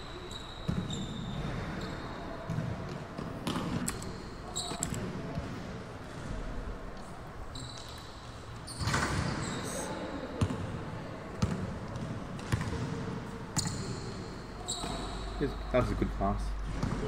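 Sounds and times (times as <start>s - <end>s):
basketball dribbling in hall: 0.0s - 6.7s, 7.5s - 17.0s.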